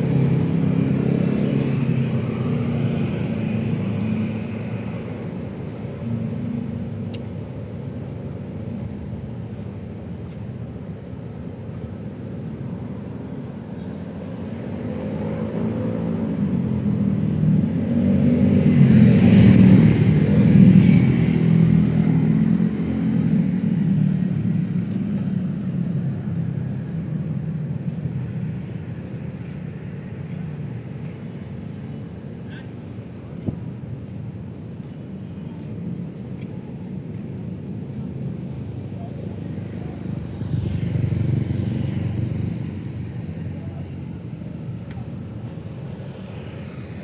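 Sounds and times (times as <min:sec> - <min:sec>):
street traffic: 0:00.0 - 0:47.0.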